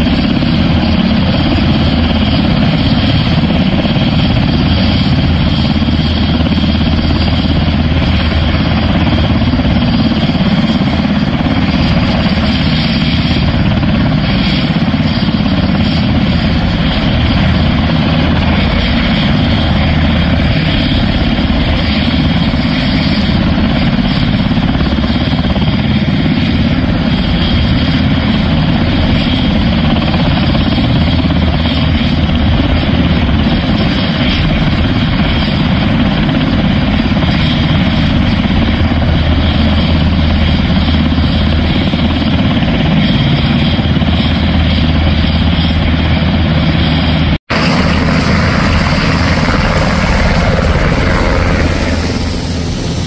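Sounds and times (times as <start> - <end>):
helicopter rotors and engines: 0.0 - 53.0.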